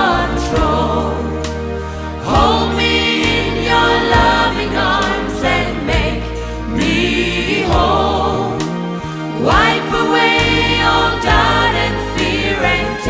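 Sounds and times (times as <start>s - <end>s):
instrumental backing with bass: 0.0s - 13.0s
voices singing together: 0.0s - 13.0s.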